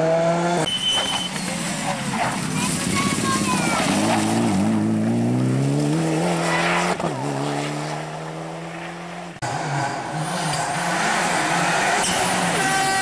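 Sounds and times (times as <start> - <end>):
rally car engine revving: 0.0 - 0.7, 1.4 - 13.0
second rally car engine: 0.0 - 13.0.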